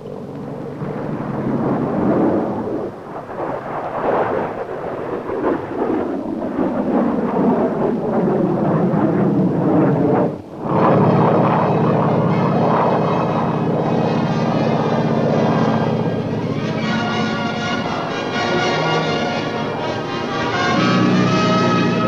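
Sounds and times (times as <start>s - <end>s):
aircraft engine rumble: 0.0s - 22.0s.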